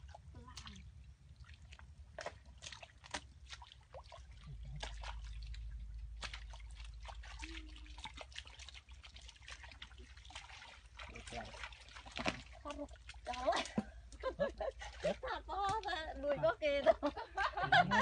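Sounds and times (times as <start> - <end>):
splashing in muddy water: 0.0 - 17.1.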